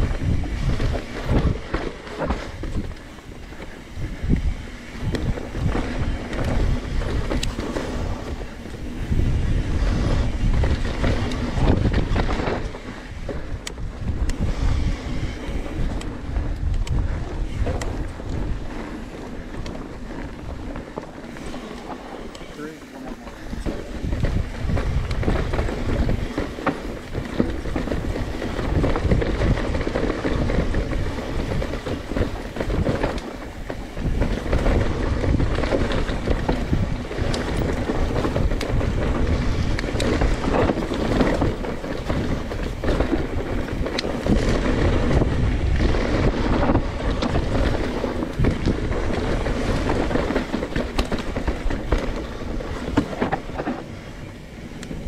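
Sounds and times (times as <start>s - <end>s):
bike frame and chain rattling: 0.0s - 55.0s
bike tyres rolling over dirt: 0.0s - 55.0s
wind rushing over microphone: 0.0s - 55.0s.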